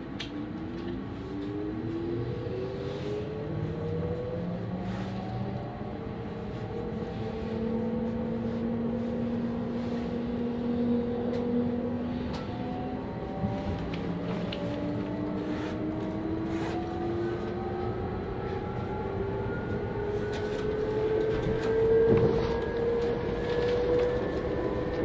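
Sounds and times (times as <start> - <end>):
train running gear rumble: 0.0 - 25.0.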